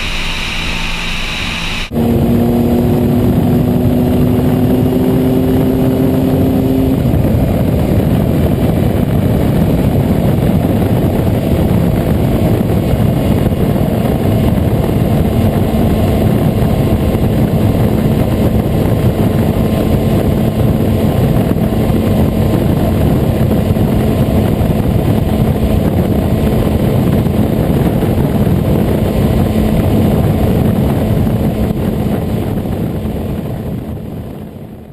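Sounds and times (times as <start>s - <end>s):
motorcycle engine low rumble: 0.0s - 34.9s.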